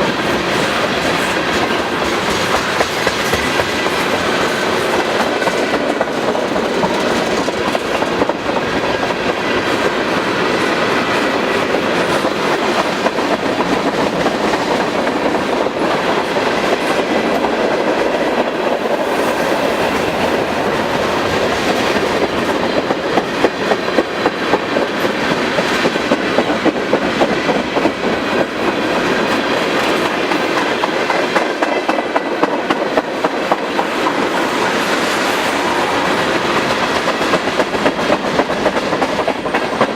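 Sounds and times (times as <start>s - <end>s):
freight train wheels clacking on rails: 0.0s - 39.9s.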